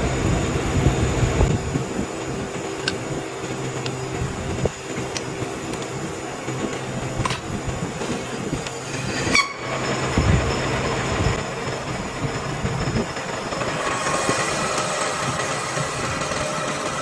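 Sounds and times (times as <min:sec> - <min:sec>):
heavy machinery humming and grinding: 0:00.0 - 0:17.0.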